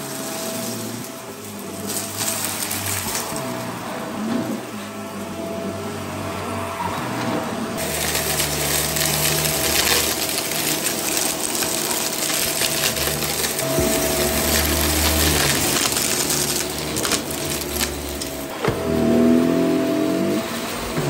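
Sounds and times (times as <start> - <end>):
debris crackling in vacuum: 0.0 - 4.7, 7.8 - 21.0
vacuum cleaner motor whine: 0.0 - 21.0.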